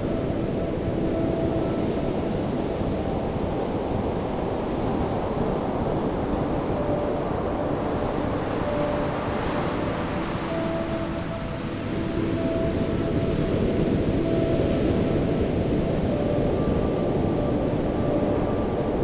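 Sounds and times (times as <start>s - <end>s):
faint held tones: 0.0s - 19.0s.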